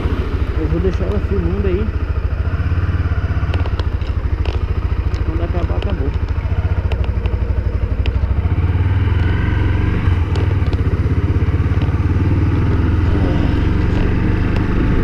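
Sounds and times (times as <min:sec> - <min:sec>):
motorcycle engine pulling away: 0:00.0 - 0:15.0.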